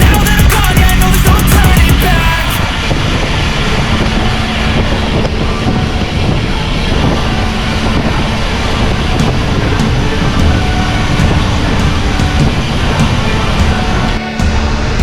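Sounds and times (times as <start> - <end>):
music: 0.0 - 15.0
wind buffeting microphone: 2.6 - 15.0.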